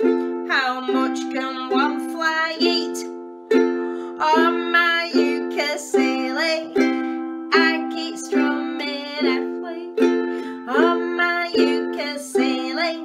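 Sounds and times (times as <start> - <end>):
ukulele strumming: 0.0 - 13.0
woman singing: 0.1 - 13.0.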